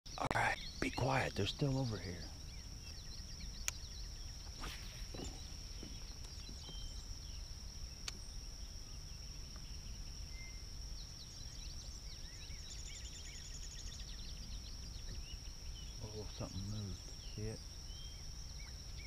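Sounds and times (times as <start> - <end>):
bird chirps: 0.1 - 19.0.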